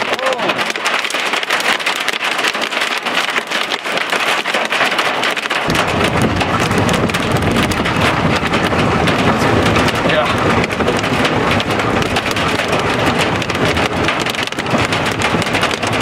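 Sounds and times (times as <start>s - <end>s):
hail pelting down: 0.0s - 16.0s
wind noise on microphone: 0.0s - 16.0s.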